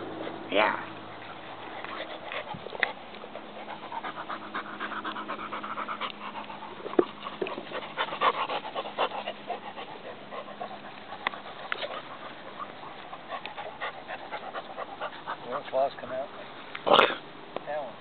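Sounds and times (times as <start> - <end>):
dog panting: 0.0 - 16.5.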